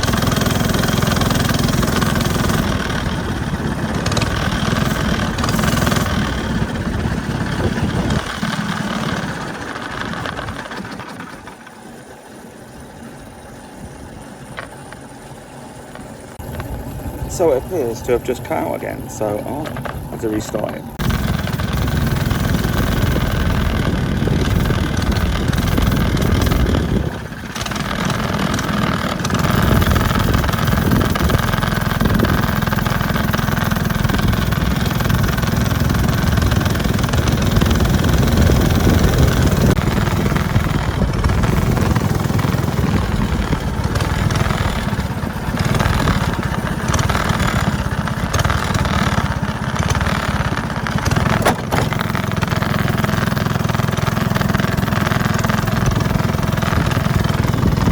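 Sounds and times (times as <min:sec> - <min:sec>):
go-kart engine with loud exhaust: 0:00.0 - 0:57.9.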